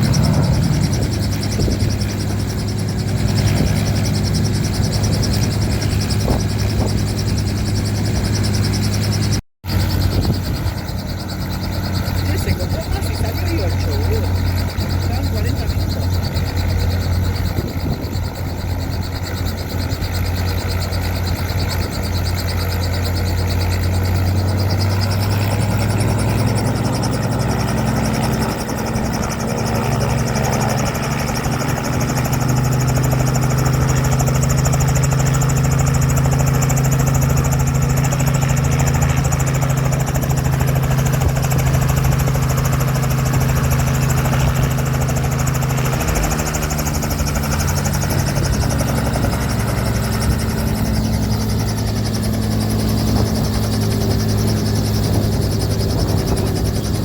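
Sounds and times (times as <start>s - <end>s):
aircraft engine running: 0.0s - 57.0s.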